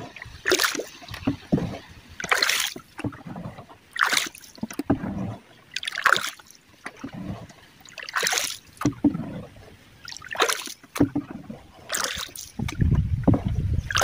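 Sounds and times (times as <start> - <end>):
low water sloshing: 0.0 - 14.0
paddle strokes splashing in water: 0.0 - 14.0.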